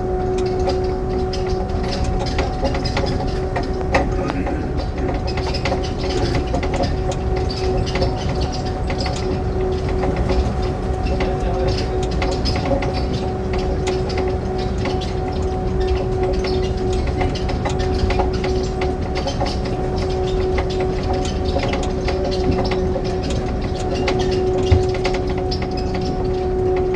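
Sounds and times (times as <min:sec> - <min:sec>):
motor hum: 0:00.0 - 0:26.9
train low rumble: 0:00.0 - 0:26.9
wheels clicking on track: 0:00.0 - 0:26.9.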